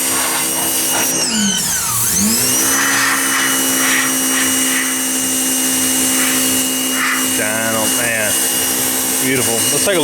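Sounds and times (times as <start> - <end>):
electric motor drone: 0.0 - 10.0.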